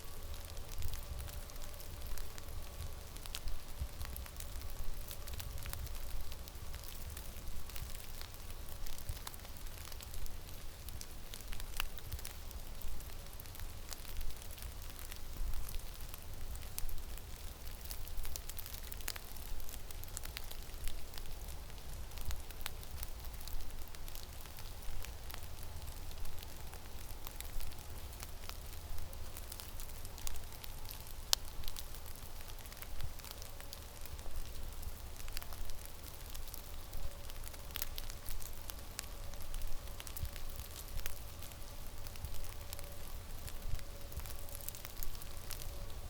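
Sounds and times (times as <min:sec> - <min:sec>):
small ticks and crackles: 0:00.0 - 0:46.0.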